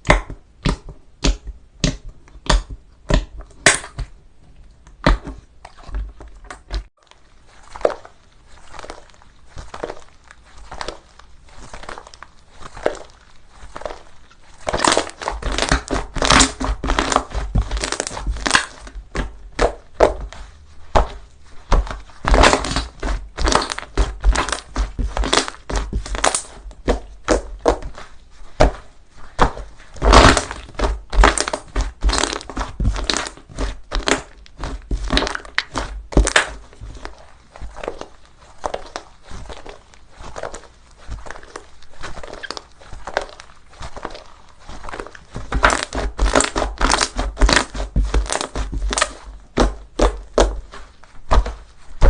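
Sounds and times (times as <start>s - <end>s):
slime crackling and popping: 0.0s - 4.1s, 4.9s - 52.0s.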